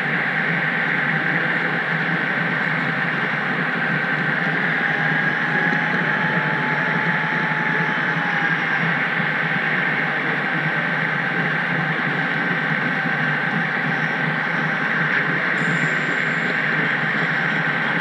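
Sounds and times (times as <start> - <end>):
lower whine: 0.0 - 18.0.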